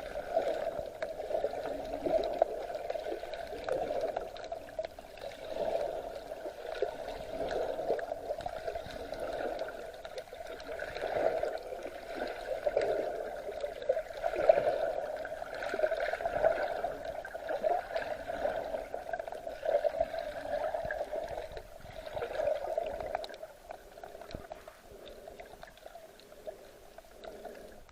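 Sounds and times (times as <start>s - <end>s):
sea water sloshing and gurgling: 0.0s - 27.9s.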